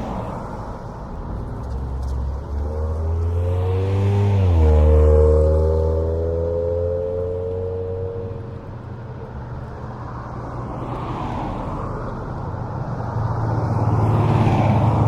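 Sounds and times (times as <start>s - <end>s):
cars passing: 0.0s - 15.0s
highway traffic: 0.0s - 15.0s.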